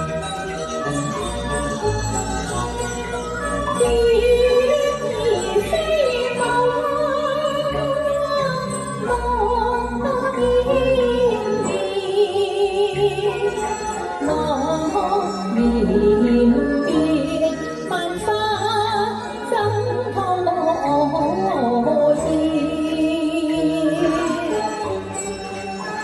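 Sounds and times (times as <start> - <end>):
instrumental accompaniment: 0.0 - 26.0.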